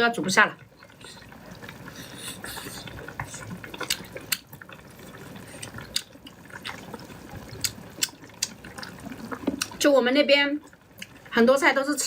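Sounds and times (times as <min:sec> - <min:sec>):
pot of food bubbling: 0:00.0 - 0:12.0.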